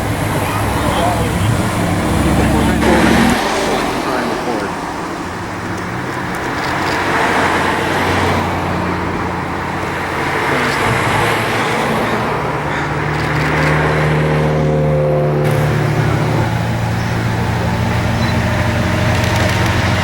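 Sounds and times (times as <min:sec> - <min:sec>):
car engine running: 0:00.0 - 0:20.0
road traffic noise: 0:00.0 - 0:20.0.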